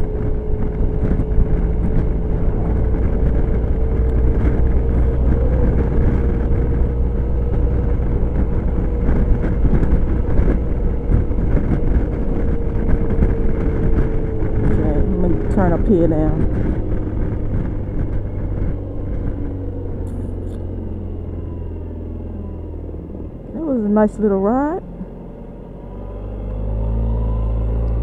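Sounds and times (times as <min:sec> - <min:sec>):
road rumble: 0:00.0 - 0:28.0
scooter engine whine: 0:00.0 - 0:28.0
wind rush: 0:00.0 - 0:28.0.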